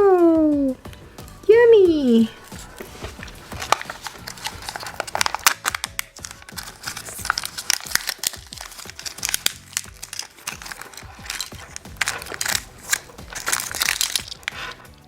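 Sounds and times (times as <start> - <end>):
background music: 0.0 - 15.0
plastic wrapping crinkling: 2.1 - 15.0.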